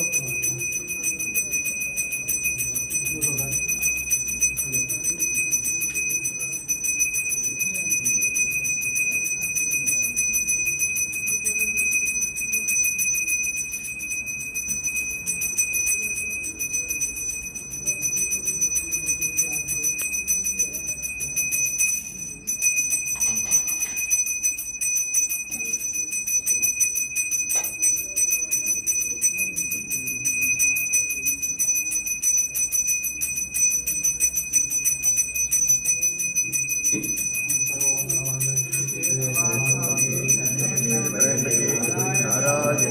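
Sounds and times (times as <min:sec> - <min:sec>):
hand bell ringing rapidly: 0:00.0 - 0:42.9.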